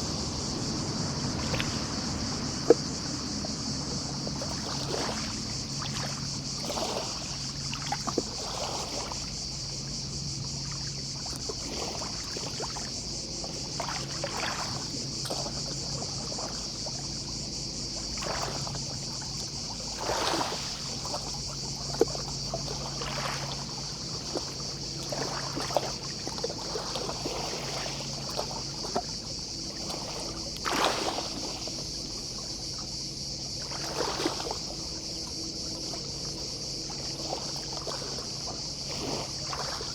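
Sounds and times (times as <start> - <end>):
distant cicadas chorus: 0.0 - 39.9
sea waves lapping on shore: 0.0 - 39.9.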